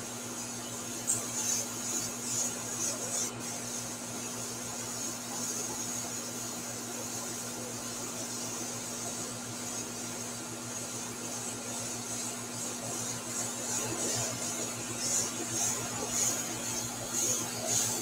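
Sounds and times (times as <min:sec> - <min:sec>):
airbrush hissing: 0:00.2 - 0:18.0.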